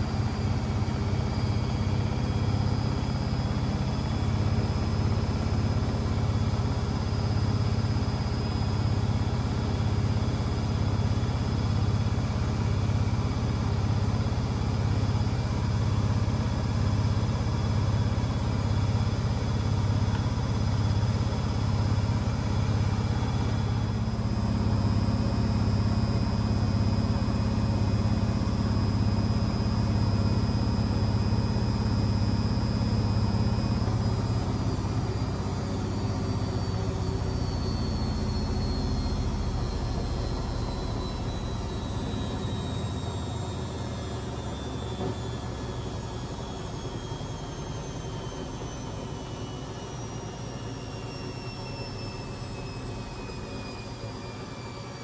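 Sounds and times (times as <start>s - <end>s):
high motor whine: 0.0s - 55.0s
washing machine pulsing hum: 0.0s - 55.0s.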